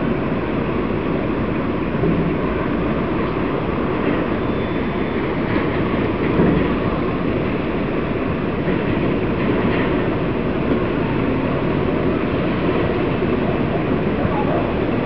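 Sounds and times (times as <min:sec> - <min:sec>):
ferry diesel engine rumble: 0:00.0 - 0:15.0.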